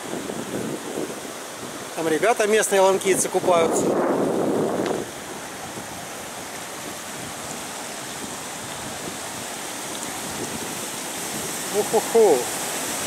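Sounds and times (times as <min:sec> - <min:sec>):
river water rushing over rock: 0:00.0 - 0:13.0.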